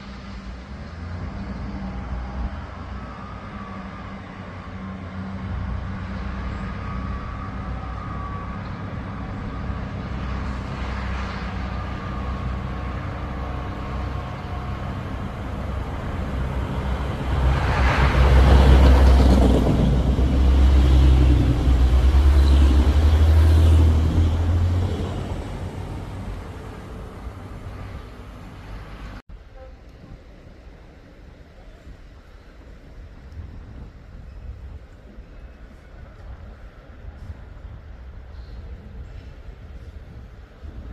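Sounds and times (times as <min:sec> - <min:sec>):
diesel train engine drone: 0:00.0 - 0:40.9
train wheel and rail noise: 0:00.0 - 0:40.9.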